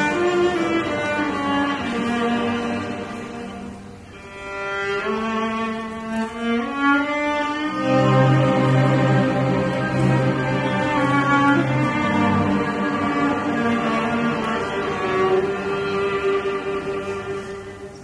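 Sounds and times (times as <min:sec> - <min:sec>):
low strings sustained note: 0:00.0 - 0:18.0
string orchestra holding notes: 0:00.0 - 0:18.0.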